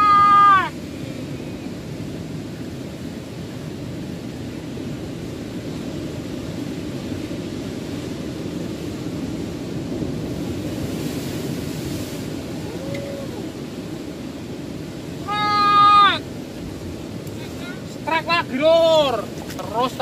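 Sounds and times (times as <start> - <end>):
surf breaking on rocky shore: 0.0 - 20.0.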